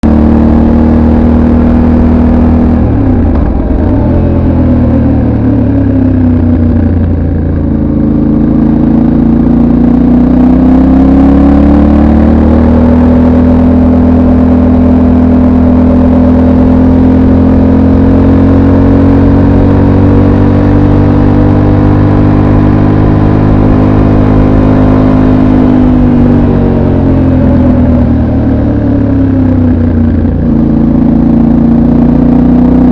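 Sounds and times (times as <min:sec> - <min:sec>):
motorcycle engine while riding: 0:00.0 - 0:32.9.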